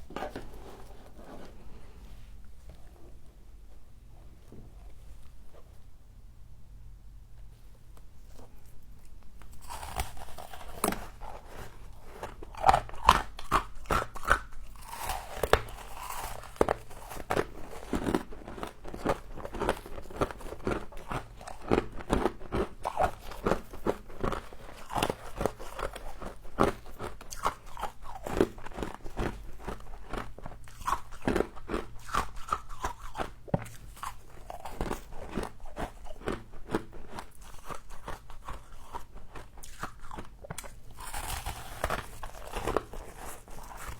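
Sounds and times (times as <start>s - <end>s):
chewing crunchy frost: 8.2s - 43.9s.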